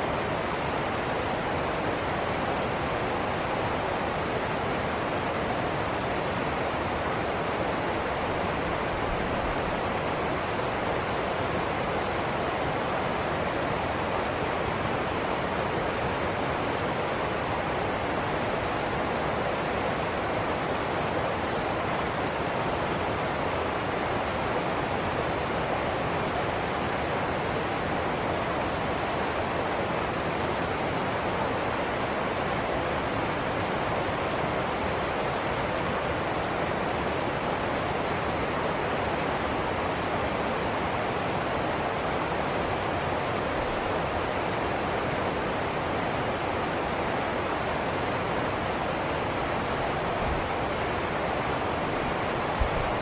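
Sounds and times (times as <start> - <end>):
water rushing over rocks: 0.0 - 53.0.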